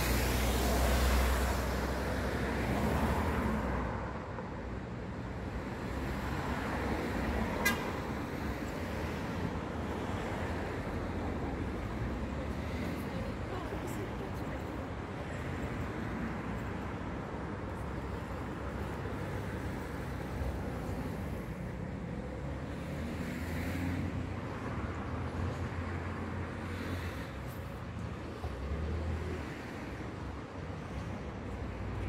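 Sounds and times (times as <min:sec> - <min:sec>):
cars driving past: 0:00.0 - 0:32.0
road noise rumble: 0:00.0 - 0:32.0.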